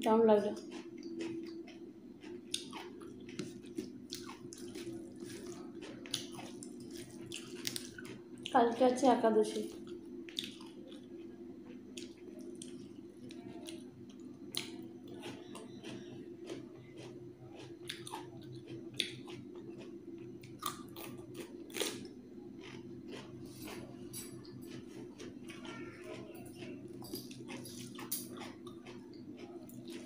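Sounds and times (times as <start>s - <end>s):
person chewing: 0.6s - 8.6s, 9.7s - 30.0s.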